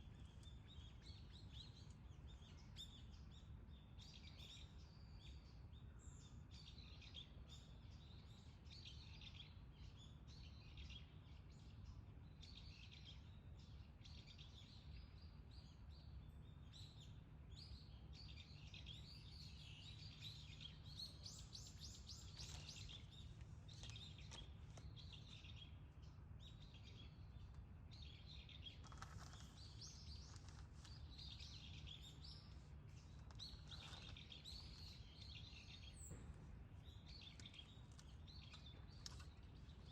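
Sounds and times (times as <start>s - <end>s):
low background hum: 0.0s - 39.9s
small songbirds chirping: 0.0s - 39.9s.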